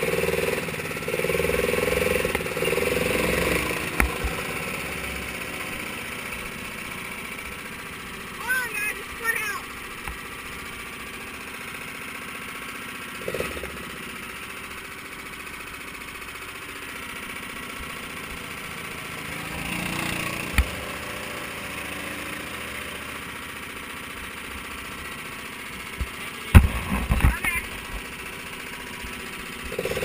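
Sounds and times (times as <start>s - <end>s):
small race car engines running: 0.0s - 30.0s.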